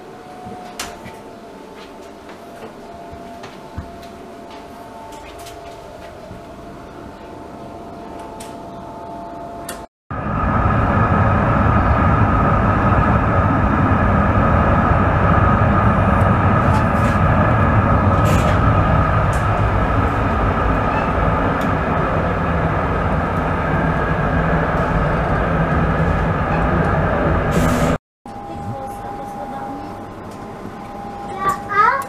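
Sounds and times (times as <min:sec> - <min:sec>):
high whine: 0:00.0 - 0:32.0
tram wheels rumbling on rails: 0:00.0 - 0:32.0.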